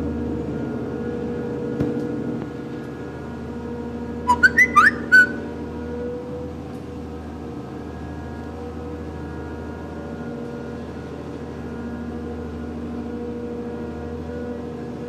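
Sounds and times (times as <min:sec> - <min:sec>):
boat machinery low drone: 0:00.0 - 0:15.0.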